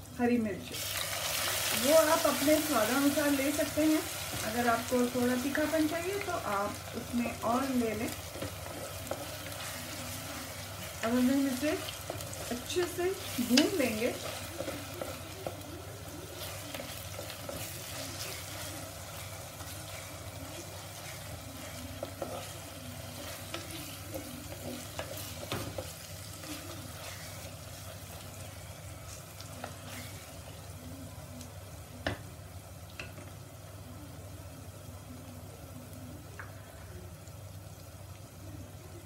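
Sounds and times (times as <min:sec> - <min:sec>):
onions sizzling in oil: 0:00.0 - 0:39.0.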